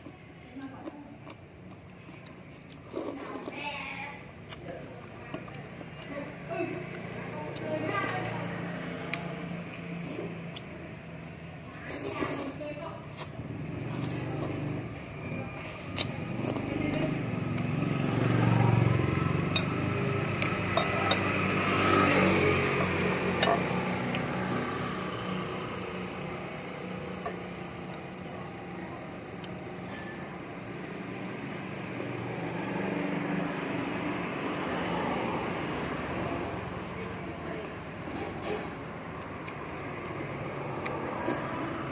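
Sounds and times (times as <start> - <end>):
traffic passing: 0.0 - 41.9.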